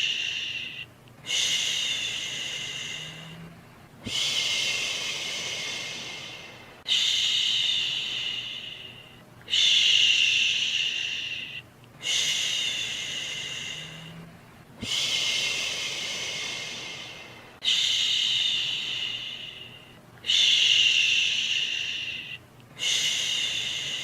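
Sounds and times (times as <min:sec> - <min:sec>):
person shushing: 0:00.0 - 0:24.0.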